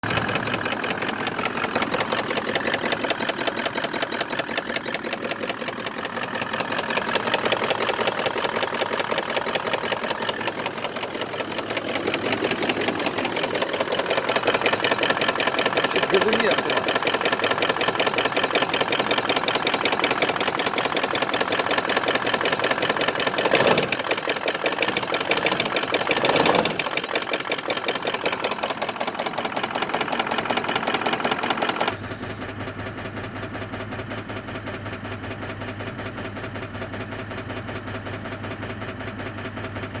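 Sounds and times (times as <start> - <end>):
diesel engine knocking clatter: 0.0 - 40.0.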